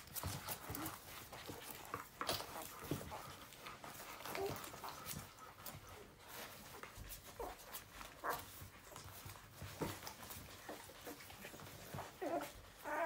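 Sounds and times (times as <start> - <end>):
puppies squeaking and whimpering: 0.0 - 13.0.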